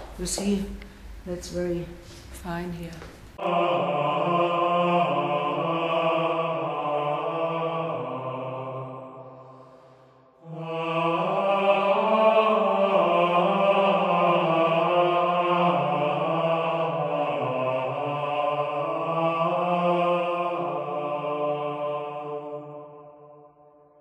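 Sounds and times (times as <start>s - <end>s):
slow chant-like tones: 0.0s - 24.0s.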